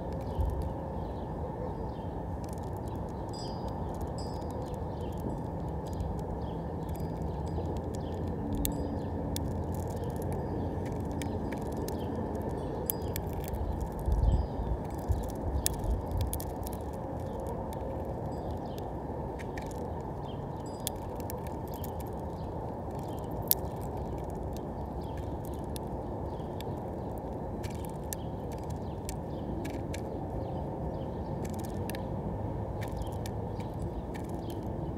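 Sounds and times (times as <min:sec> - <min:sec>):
bird pecking seeds clicks: 0:02.4 - 0:30.6, 0:31.3 - 0:32.1, 0:32.7 - 0:34.9.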